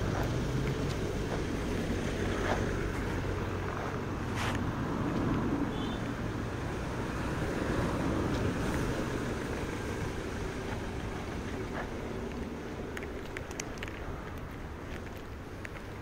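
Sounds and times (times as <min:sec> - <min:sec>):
bicycle road noise: 0:00.0 - 0:16.0
rushing wind: 0:00.0 - 0:16.0.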